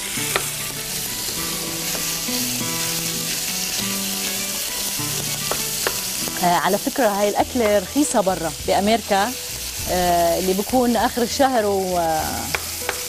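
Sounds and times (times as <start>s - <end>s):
meat sizzling in oil: 0.0s - 13.0s
soft background music: 0.0s - 13.0s
wooden spatula in frying pan: 0.0s - 13.0s.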